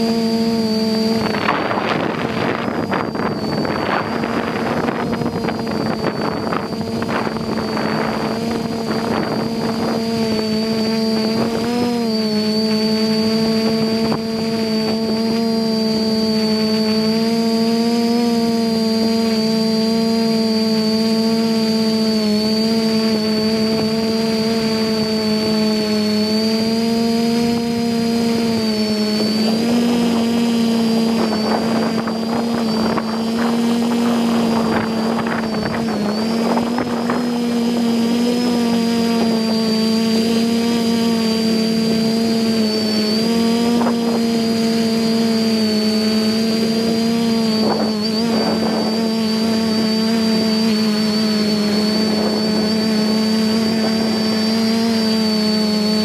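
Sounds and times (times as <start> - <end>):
quadcopter motors buzzing: 0.0 - 56.0.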